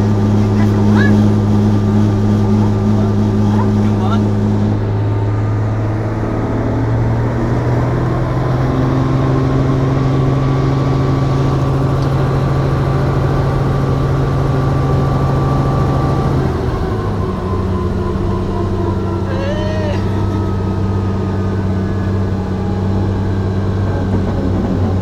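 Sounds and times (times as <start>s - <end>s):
helicopter engine and rotor hum: 0.0s - 25.0s.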